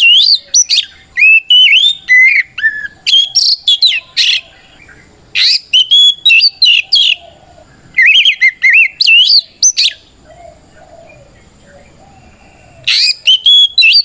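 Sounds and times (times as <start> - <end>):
bird singing whistled song: 0.0 - 14.0.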